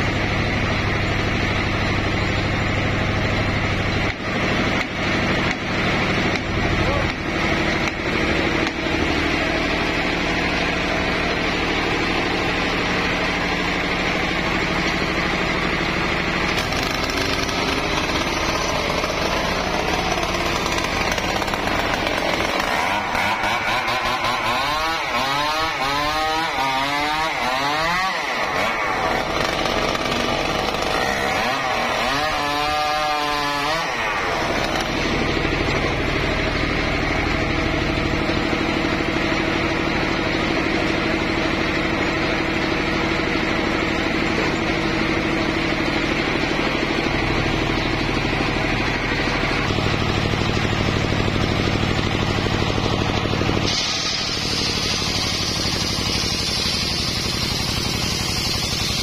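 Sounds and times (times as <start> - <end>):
circular sawmill sawing log: 0.0 - 59.0.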